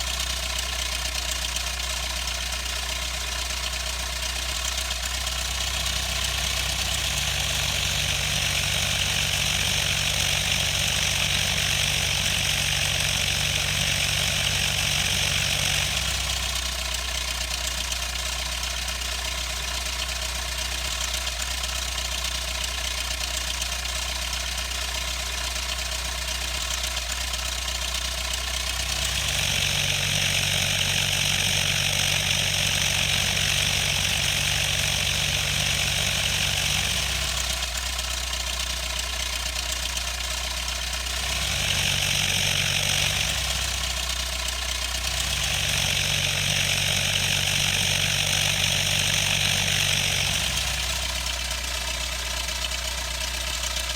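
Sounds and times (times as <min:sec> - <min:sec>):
aircraft engine and propeller idling: 0:00.0 - 0:53.9.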